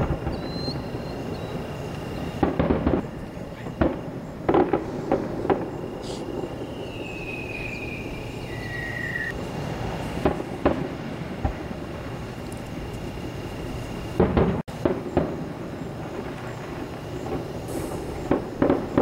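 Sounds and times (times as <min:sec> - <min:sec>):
falling firework whistle: 0:00.0 - 0:12.4, 0:14.1 - 0:19.0
firework shells bursting: 0:00.0 - 0:19.0.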